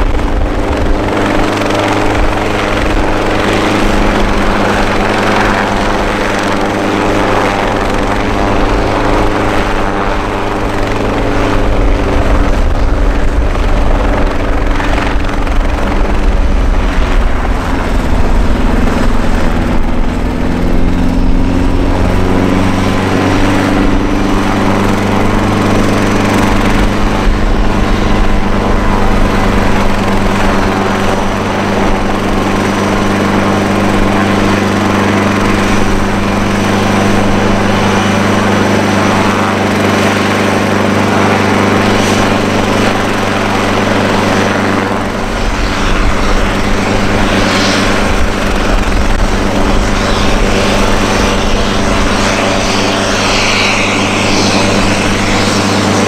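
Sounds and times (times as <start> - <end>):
propeller hum: 0.0 - 56.0
turboprop engine whine: 0.0 - 56.0.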